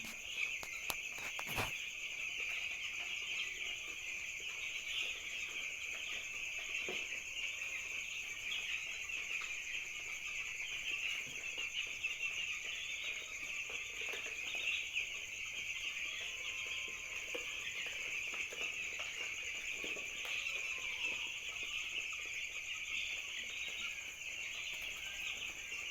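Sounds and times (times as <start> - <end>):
chicks peeping: 0.0 - 25.9.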